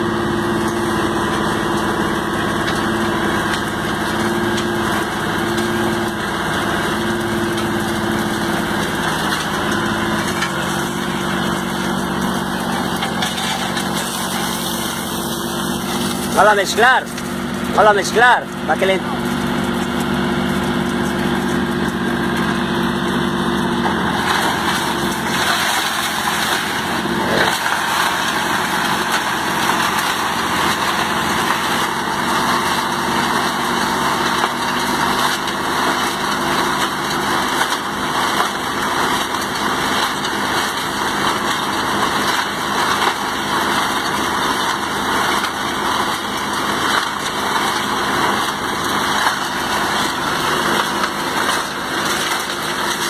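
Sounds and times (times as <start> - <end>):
concrete mixer truck running: 0.0 - 53.0.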